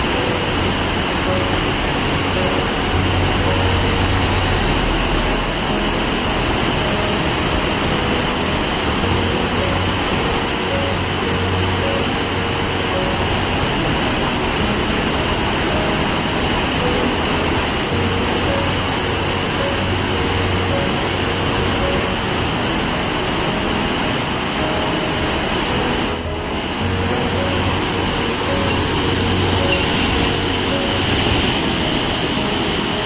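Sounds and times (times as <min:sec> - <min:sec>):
soft background music: 0:00.0 - 0:33.0
waterfall roaring: 0:00.0 - 0:33.0.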